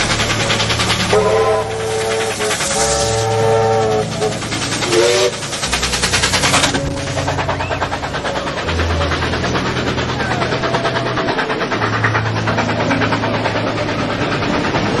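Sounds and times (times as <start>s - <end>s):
train engine drone: 0.0s - 15.0s
train wheels clattering: 0.0s - 15.0s.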